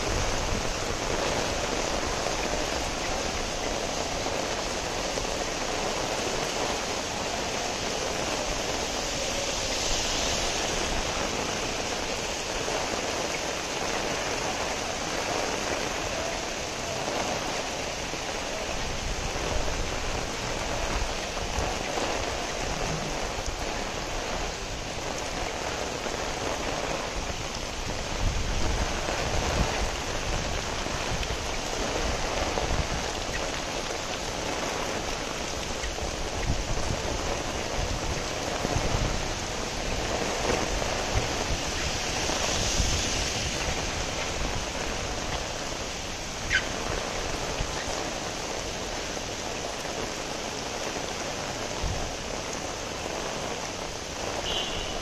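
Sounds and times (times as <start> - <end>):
rain on a wet street: 0.0 - 55.0.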